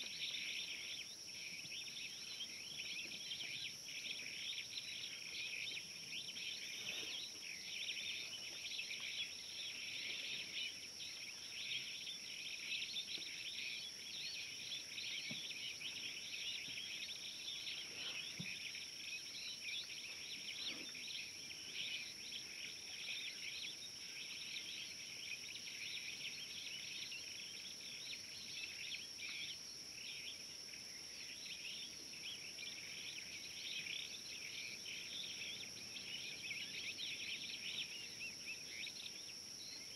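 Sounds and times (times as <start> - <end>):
continuous high whine: 0.0 - 39.9
insects chirring: 0.0 - 39.9.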